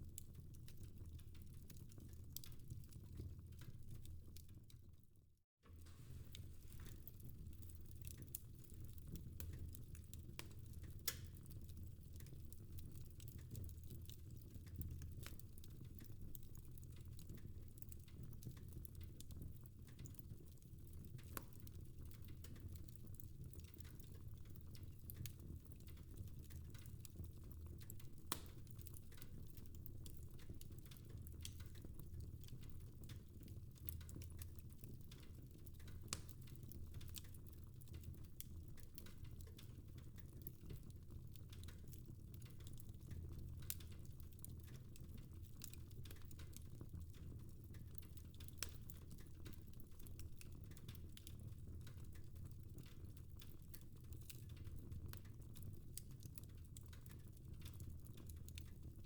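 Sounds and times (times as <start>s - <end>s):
fireplace crackling: 0.0s - 4.8s, 5.7s - 59.0s.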